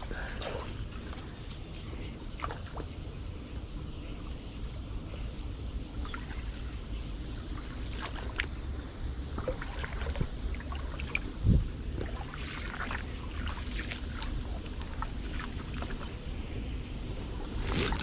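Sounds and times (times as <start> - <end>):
low wind rumble on microphone: 0.0 - 18.0.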